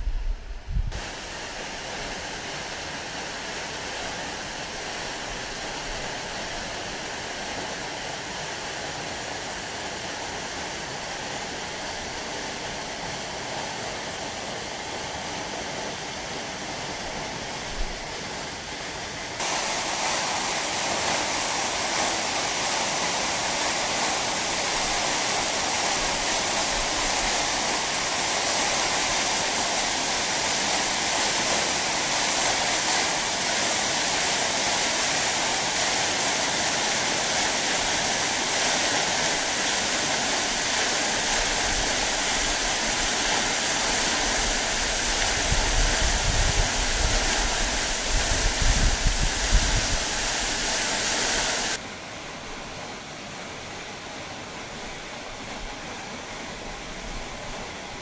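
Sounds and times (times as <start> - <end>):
waterfall rushing: 1.0 - 51.8.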